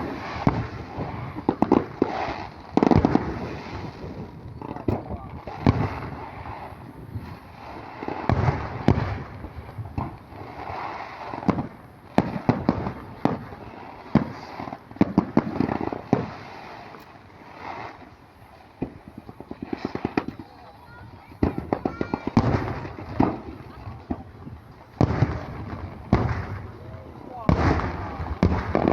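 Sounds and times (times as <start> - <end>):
fireworks bangs: 0.0 - 28.9
fireworks crackling: 0.0 - 28.9.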